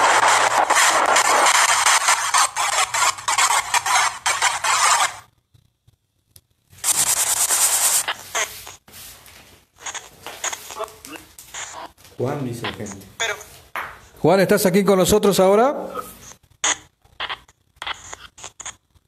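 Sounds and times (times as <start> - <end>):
hissing crackling noise: 0.0 - 6.0, 6.7 - 14.2, 15.3 - 19.0.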